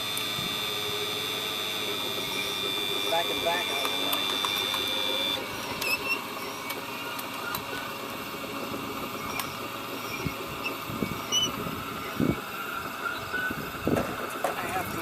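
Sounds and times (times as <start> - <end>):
electric pump and motors whirring: 0.0 - 15.0
high whine: 0.0 - 15.0.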